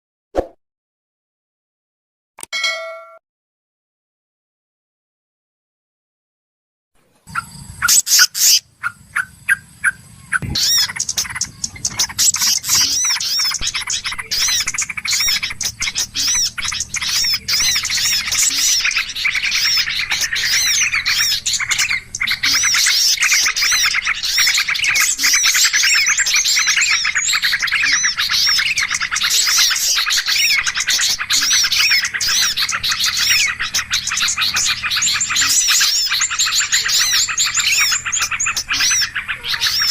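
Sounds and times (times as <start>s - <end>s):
small birds chirping and twittering: 7.0s - 39.9s
loud sharp bird calls: 7.2s - 39.9s.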